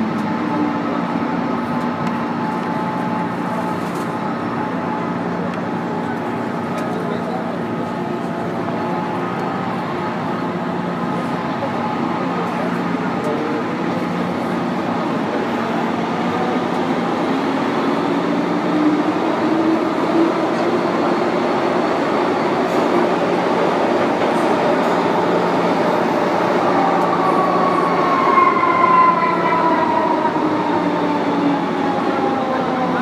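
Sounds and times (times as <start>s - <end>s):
train rumbling on tracks: 0.0s - 33.0s.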